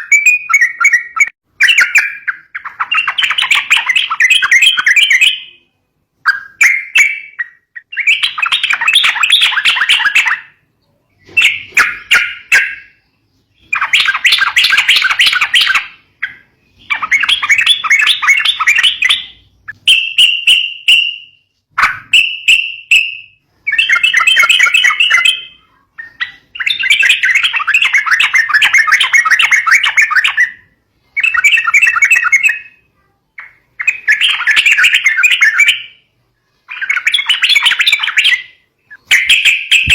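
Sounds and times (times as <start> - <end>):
bird whistles: 0.0 - 36.1, 36.7 - 39.9
bulbul chattering song: 0.0 - 39.9.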